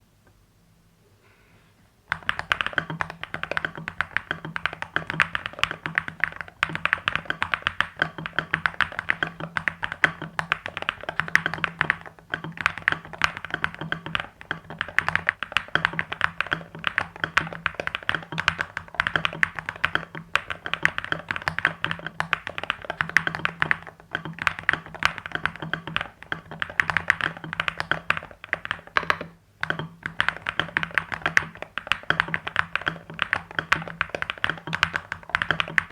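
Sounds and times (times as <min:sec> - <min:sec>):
mechanical keyboard typing: 0:02.1 - 0:35.9.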